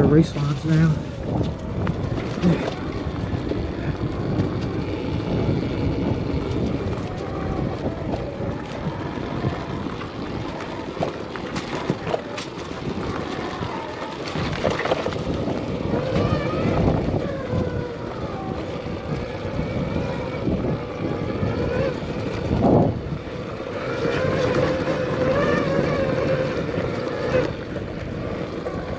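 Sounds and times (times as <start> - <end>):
electric motor whine: 0.0 - 28.9
rumble of tyres and chassis: 0.0 - 28.9
wind noise on microphone: 0.0 - 28.9.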